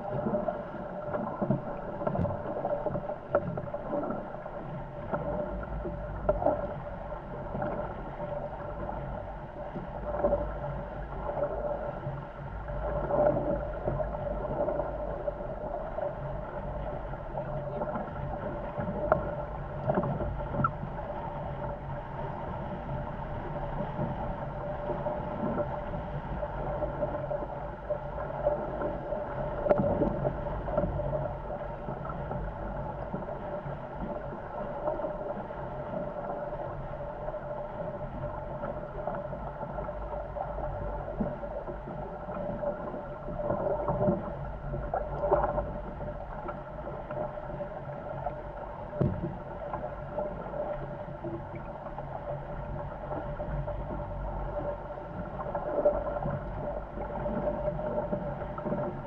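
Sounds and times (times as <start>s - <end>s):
rush of wind and water: 0.0s - 59.0s
steady hum: 0.0s - 59.0s
water surges: 0.0s - 59.0s.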